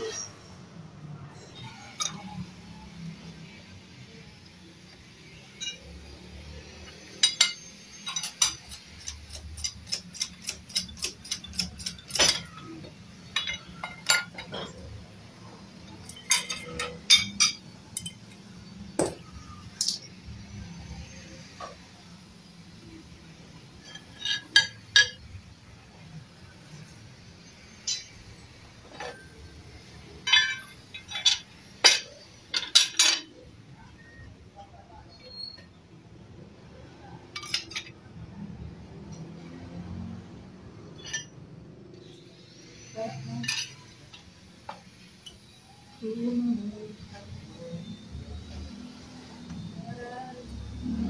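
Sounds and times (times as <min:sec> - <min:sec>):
metal tools clicking on engine parts: 0:01.3 - 0:34.3, 0:37.1 - 0:45.7.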